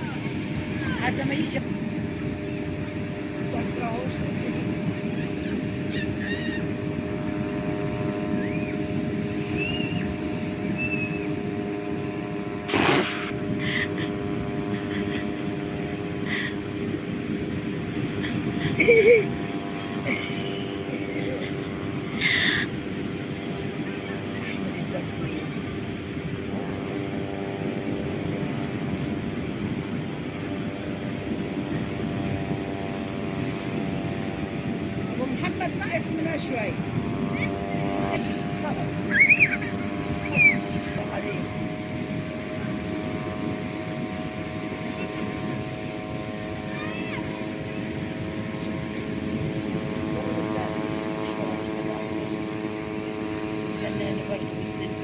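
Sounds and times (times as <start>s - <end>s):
low engine-like drone: 0.0s - 55.0s.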